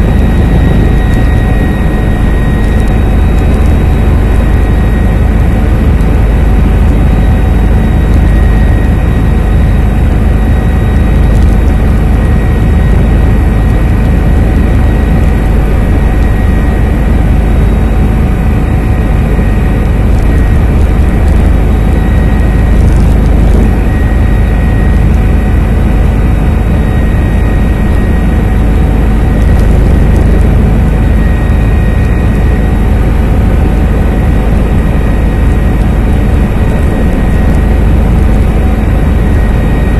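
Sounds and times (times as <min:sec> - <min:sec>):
helicopter rotor and turbine drone: 0:00.0 - 0:39.9
steady whining tones: 0:00.0 - 0:39.9.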